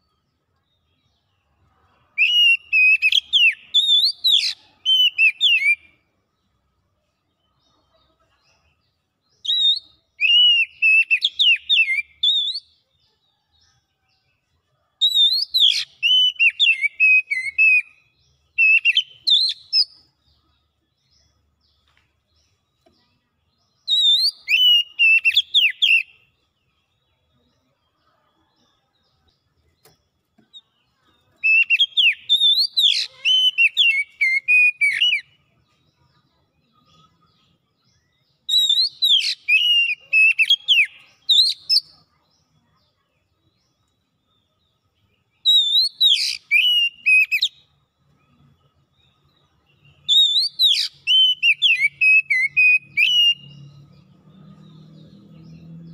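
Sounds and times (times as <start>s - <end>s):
bird singing whistled notes: 2.2s - 6.1s, 9.2s - 13.7s, 15.0s - 27.7s, 29.0s - 42.2s, 43.2s - 55.9s.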